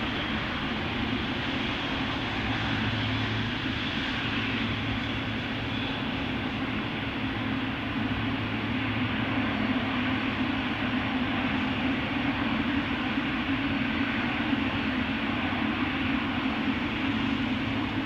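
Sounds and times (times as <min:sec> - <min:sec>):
jet engines idling: 0:00.0 - 0:18.0.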